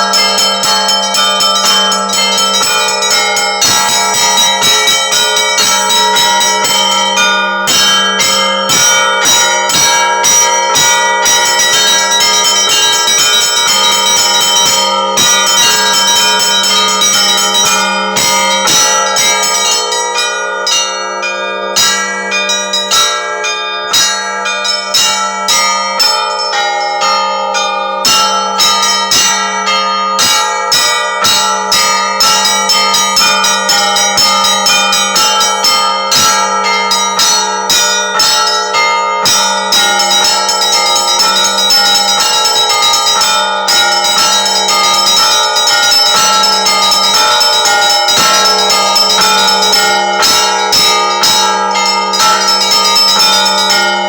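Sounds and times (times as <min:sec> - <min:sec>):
deep hum of large bell: 0:00.0 - 0:54.0
small church bells ringing: 0:00.0 - 0:54.0.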